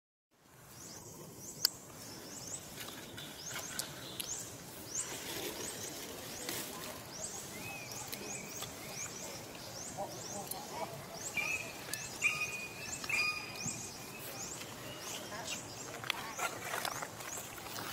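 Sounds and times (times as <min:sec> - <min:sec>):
outdoor background hiss: 0:00.3 - 0:17.9
birds chirping: 0:00.6 - 0:17.9.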